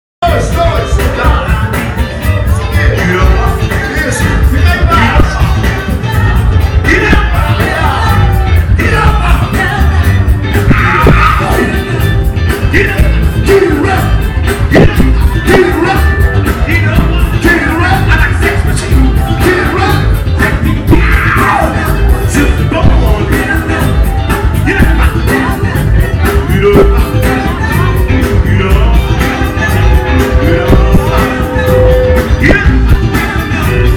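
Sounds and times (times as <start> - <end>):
funk band playing: 0.2 - 33.9
person singing: 0.2 - 33.9.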